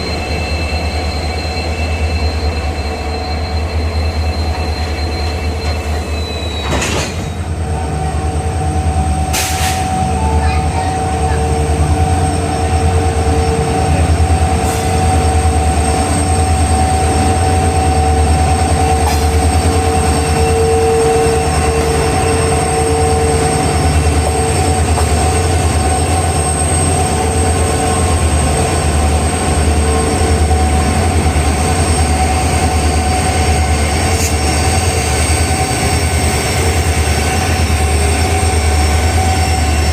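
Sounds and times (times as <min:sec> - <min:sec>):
diesel locomotive engine throb: 0:00.0 - 0:39.9.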